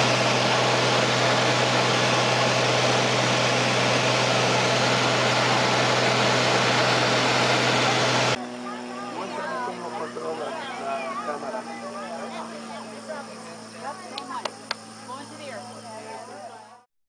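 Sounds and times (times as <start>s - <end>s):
propeller plane engine drone: 0.0s - 16.8s.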